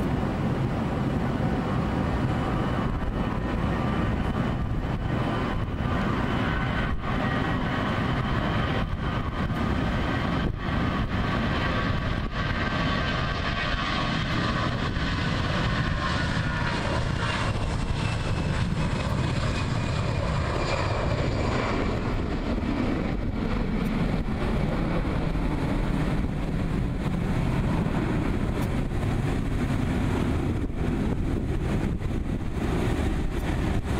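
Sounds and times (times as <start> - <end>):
deep engine rumble: 0.0 - 33.9
jet engine whine: 0.0 - 33.9.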